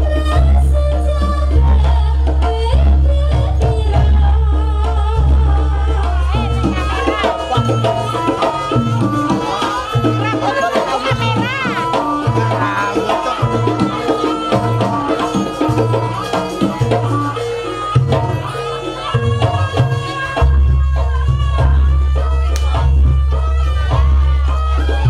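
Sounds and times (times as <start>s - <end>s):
hand drums: 0.0s - 25.0s.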